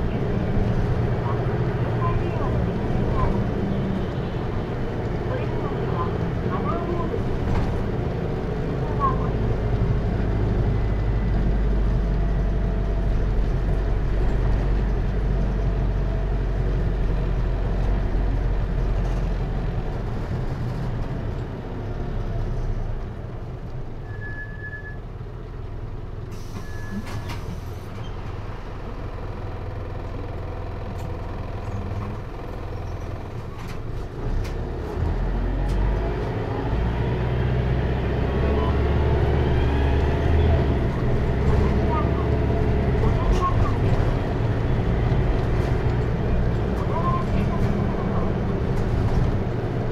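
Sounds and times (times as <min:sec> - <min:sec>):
bus engine hum from inside: 0:00.0 - 0:49.9.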